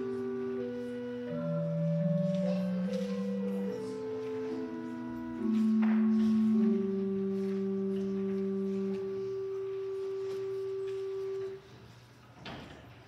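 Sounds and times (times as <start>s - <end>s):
organ playing slow chords: 0.0s - 11.7s.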